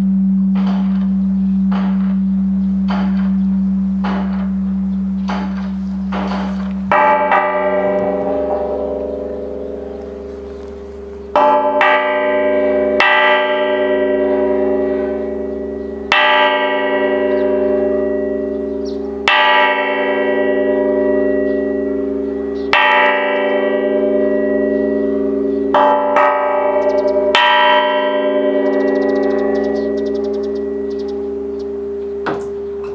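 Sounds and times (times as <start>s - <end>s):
bronze temple bell ringing: 0.0s - 32.9s.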